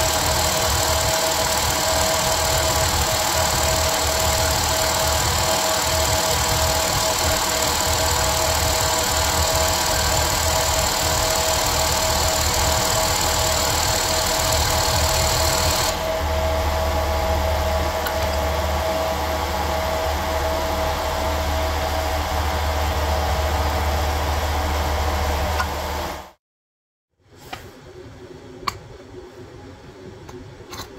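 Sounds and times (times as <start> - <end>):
hydraulic pump and motor whining: 0.0 - 26.2.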